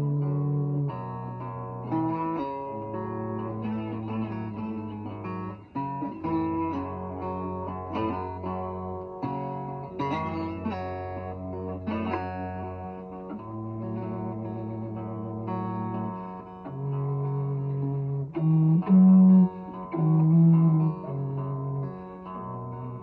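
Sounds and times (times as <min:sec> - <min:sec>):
blues guitar playing: 0:00.0 - 0:23.0.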